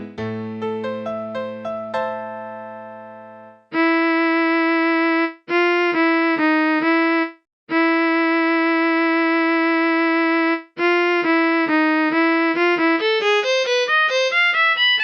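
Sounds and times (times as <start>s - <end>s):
piano notes: 0.0s - 15.0s.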